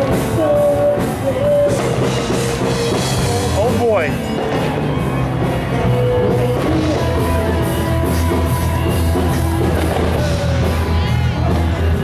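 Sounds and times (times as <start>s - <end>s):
bass guitar: 0.0s - 12.0s
electric guitar: 0.0s - 12.0s.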